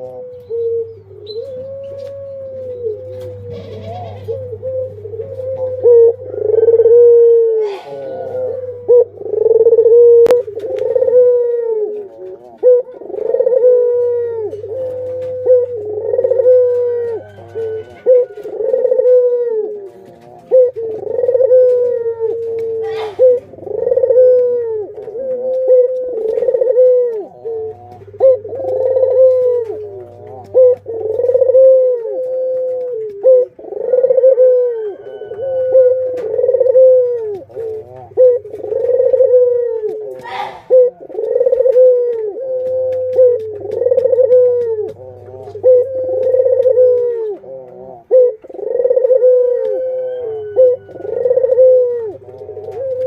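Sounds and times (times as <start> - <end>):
doves cooing: 0.0 - 53.0.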